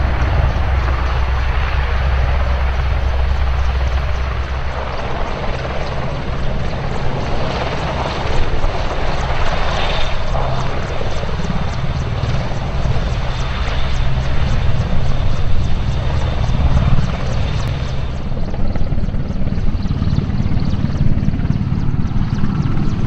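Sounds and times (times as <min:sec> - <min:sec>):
helicopter rotor beating: 0:00.0 - 0:23.0
turbine engines running: 0:00.0 - 0:23.0.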